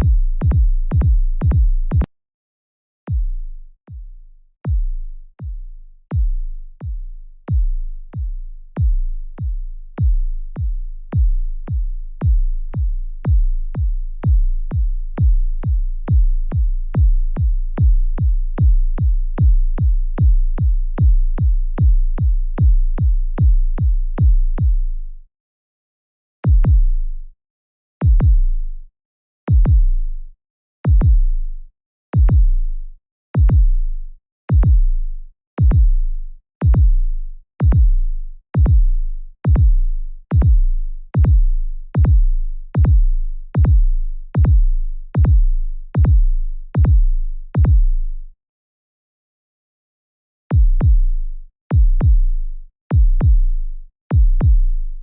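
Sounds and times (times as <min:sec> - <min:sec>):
deep synthesized bass booms: 0:00.0 - 0:02.1, 0:03.1 - 0:25.2, 0:26.5 - 0:27.3, 0:28.0 - 0:28.8, 0:29.5 - 0:30.3, 0:30.9 - 0:31.6, 0:32.2 - 0:48.3, 0:50.5 - 0:55.0.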